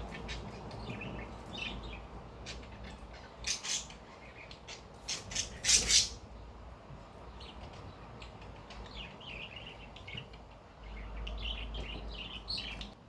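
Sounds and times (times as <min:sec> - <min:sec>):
electric fan noise: 0:00.0 - 0:13.0.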